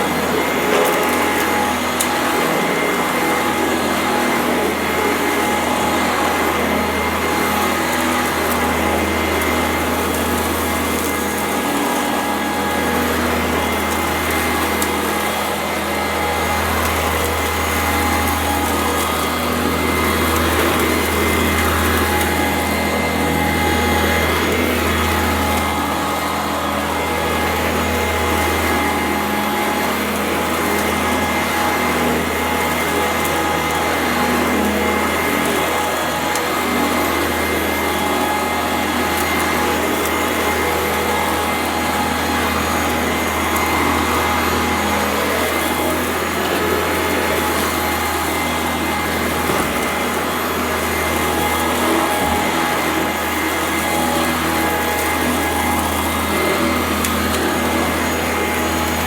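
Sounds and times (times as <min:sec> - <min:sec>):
vacuum cleaner running: 0:00.0 - 0:59.0
vacuum crunching gritty dirt: 0:00.0 - 0:59.0.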